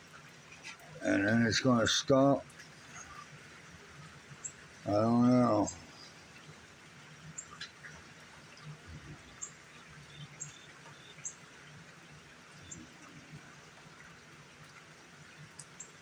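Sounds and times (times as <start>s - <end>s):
light rain hiss: 0.0s - 16.0s.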